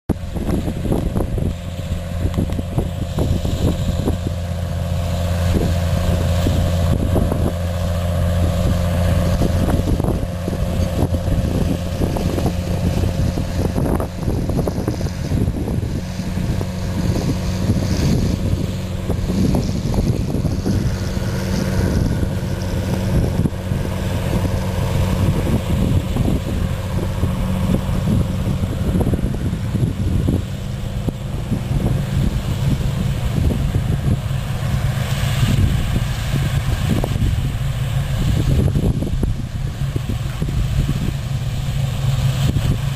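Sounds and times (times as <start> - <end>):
two-cylinder tractor engine running: 0.1 - 42.9.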